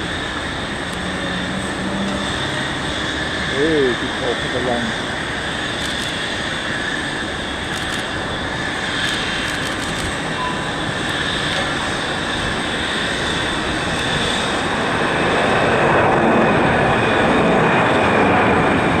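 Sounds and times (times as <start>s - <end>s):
jet engines rushing and whining: 0.0s - 19.0s.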